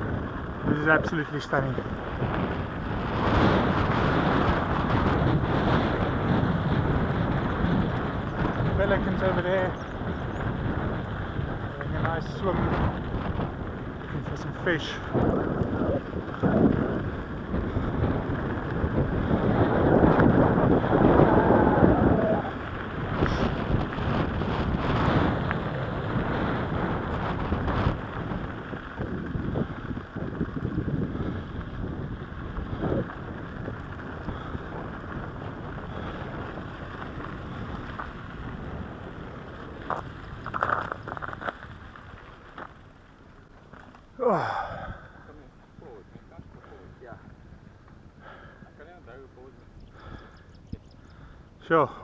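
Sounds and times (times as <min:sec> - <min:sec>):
bicycle tyres rolling on dirt: 0:00.0 - 0:52.0
wind buffeting microphone: 0:00.0 - 0:52.0.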